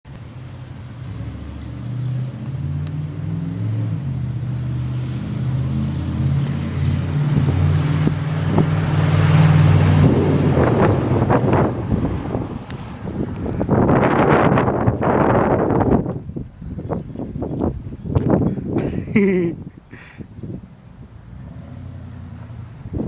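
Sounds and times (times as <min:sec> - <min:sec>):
truck engine revving: 0:00.2 - 0:16.2, 0:17.4 - 0:23.0.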